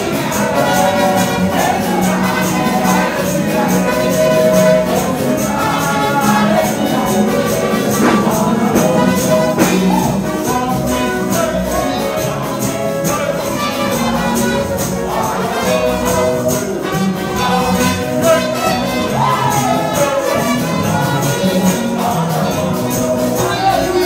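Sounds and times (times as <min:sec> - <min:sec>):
crisp percussion beat: 0:00.0 - 0:24.0
gospel music instruments: 0:00.0 - 0:24.0
man singing into microphone: 0:00.0 - 0:24.0.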